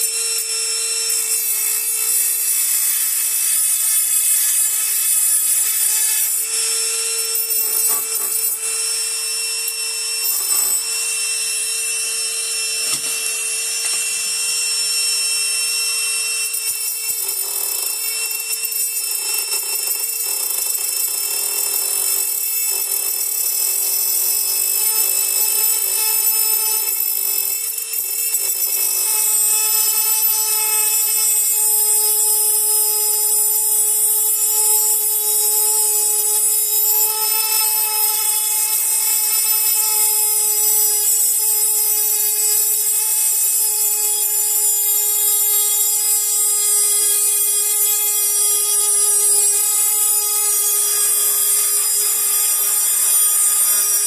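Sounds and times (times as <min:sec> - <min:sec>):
rotary tool whining: 0:00.0 - 0:54.0.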